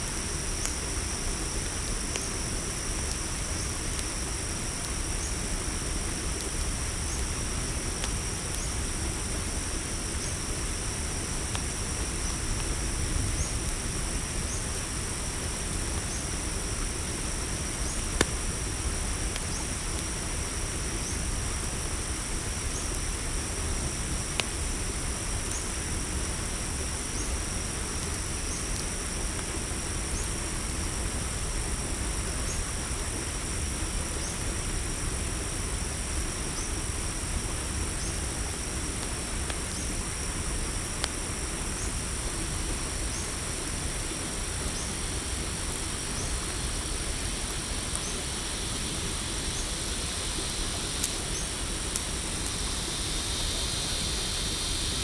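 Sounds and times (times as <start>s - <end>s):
campfire crackling pops: 0.0s - 31.4s, 36.0s - 55.0s
crickets trilling: 0.0s - 55.0s.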